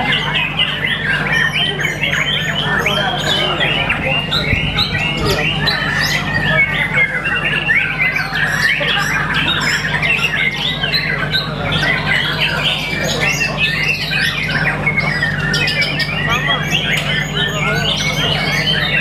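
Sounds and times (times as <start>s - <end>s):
songbird singing chirps and trills: 0.0s - 19.0s
steady low hum: 0.0s - 19.0s.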